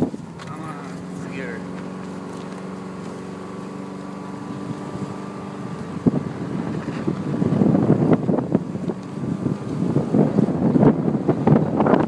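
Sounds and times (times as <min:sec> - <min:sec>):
car engine running: 0:00.0 - 0:12.0
wind on microphone: 0:00.0 - 0:12.0.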